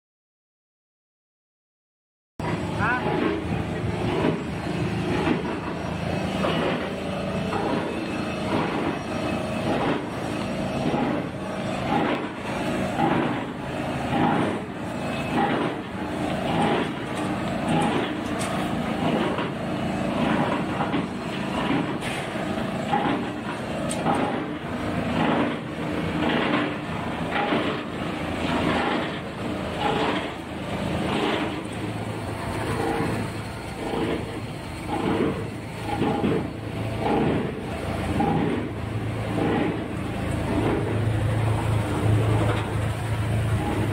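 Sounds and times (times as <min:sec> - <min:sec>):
industrial machine pulsing: 0:02.4 - 0:43.9.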